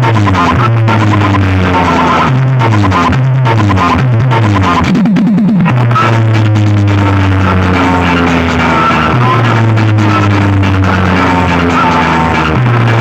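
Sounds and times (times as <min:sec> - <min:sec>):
heavy bass note: 0:00.0 - 0:13.0
loud music through sound system: 0:00.0 - 0:13.0.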